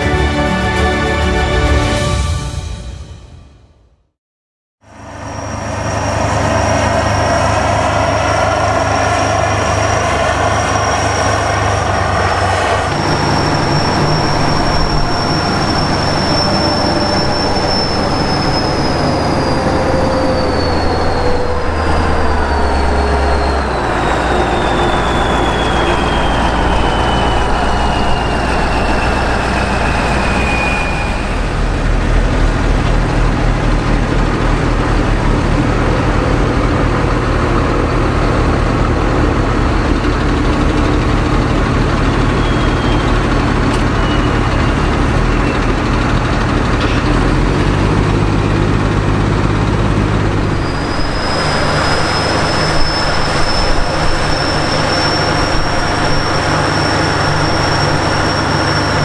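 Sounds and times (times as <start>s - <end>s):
high whine: 4.8s - 47.2s, 48.2s - 59.0s
tractor diesel engine under load: 4.8s - 59.0s.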